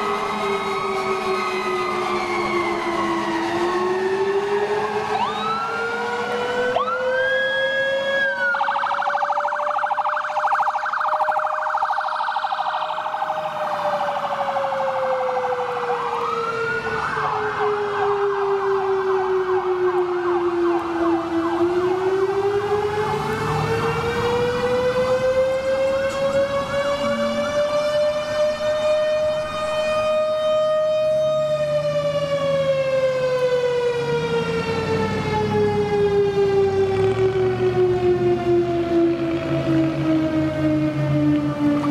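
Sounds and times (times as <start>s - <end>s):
electronic sirens wailing: 0.0s - 41.9s.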